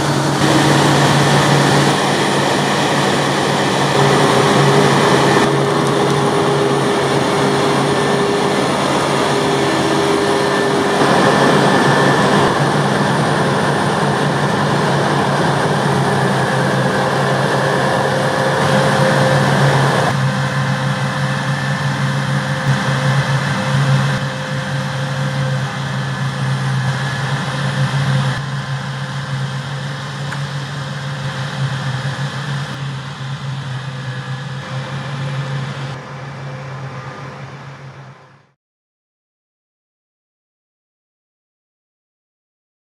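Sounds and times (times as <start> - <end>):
faint machine whine: 0.0 - 38.6
heavy diesel engines droning: 0.0 - 38.6.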